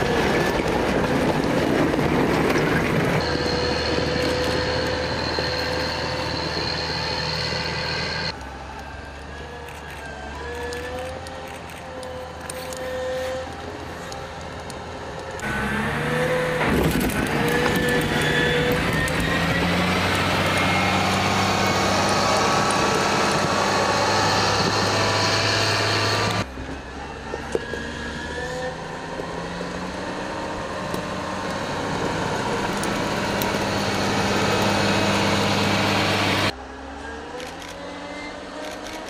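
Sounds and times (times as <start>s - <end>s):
motor grader diesel engine running: 0.0s - 39.0s.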